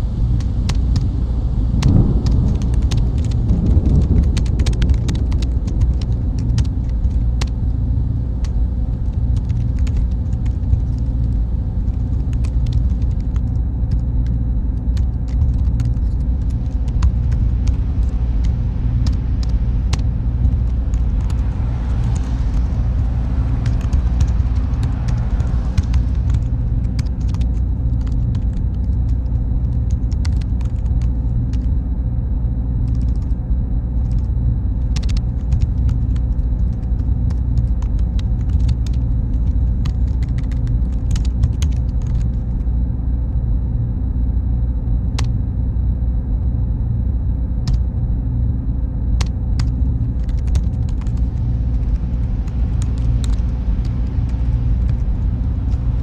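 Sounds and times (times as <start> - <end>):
cooling fans humming: 0.0 - 56.0
faint high whine: 0.0 - 56.0.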